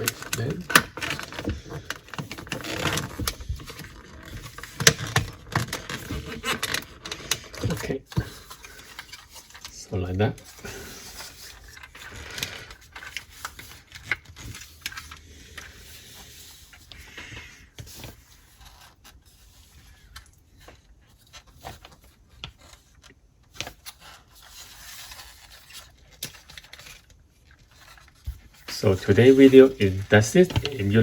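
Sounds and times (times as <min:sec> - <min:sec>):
plastic parts clicking and rubbing: 0:00.0 - 0:31.0.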